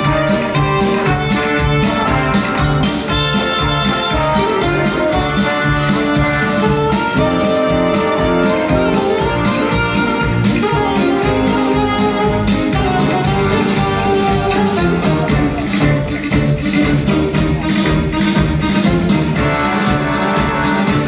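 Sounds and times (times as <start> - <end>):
latin ballroom dance music: 0.0 - 21.0.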